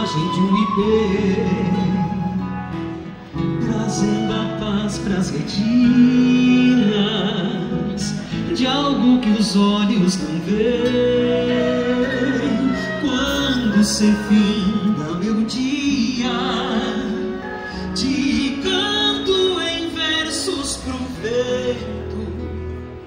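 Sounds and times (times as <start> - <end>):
acoustic guitar accompaniment: 0.0 - 23.0
flute melody: 0.0 - 23.0
man singing: 0.0 - 23.0.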